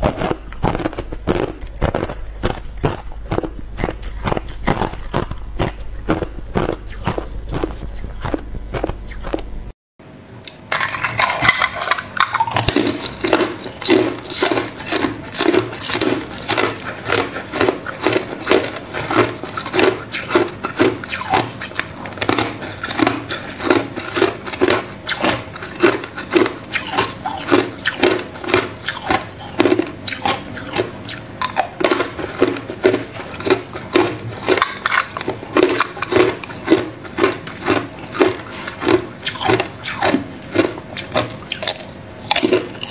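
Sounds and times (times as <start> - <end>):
ice being chewed: 0.0 - 9.5, 10.9 - 42.9.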